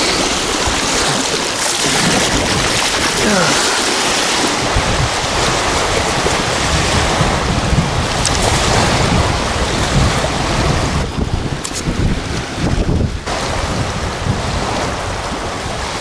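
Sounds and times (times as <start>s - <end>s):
waves lapping on shore: 0.0s - 16.0s
wind buffeting microphone: 0.0s - 16.0s.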